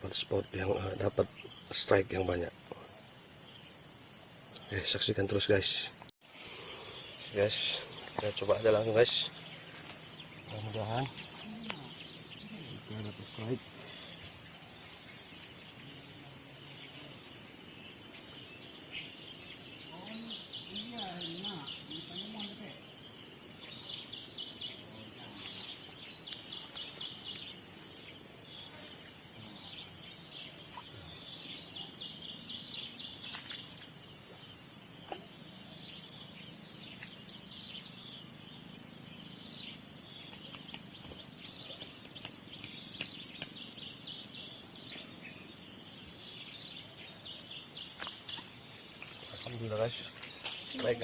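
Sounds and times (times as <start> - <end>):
insects high-pitched drone: 0.0 - 51.0
insects pulsing chirp: 0.0 - 51.0.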